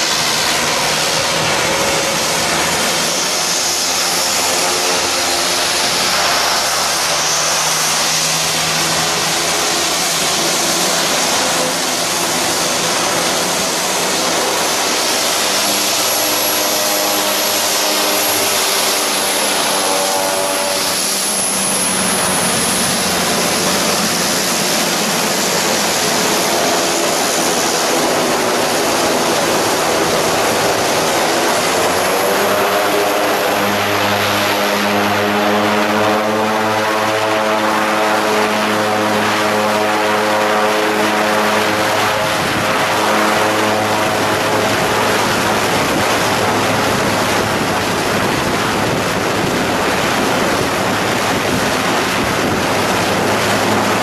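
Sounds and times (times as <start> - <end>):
propeller drone: 0.0 - 54.0
turbine whine: 0.0 - 54.0.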